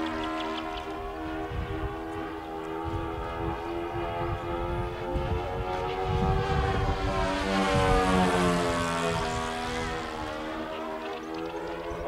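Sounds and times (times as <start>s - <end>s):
model plane propeller engines: 0.0s - 12.0s.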